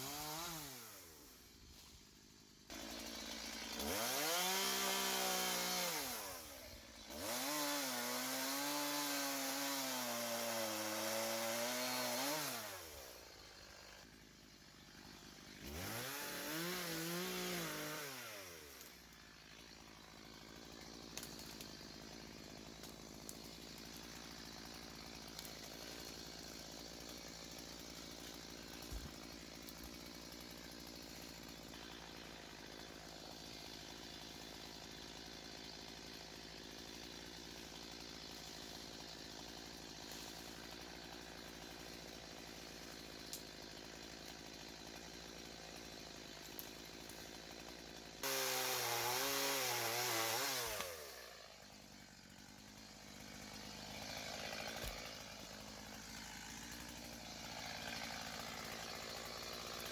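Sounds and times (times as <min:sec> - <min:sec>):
chainsaw engine running: 0:00.0 - 0:59.9.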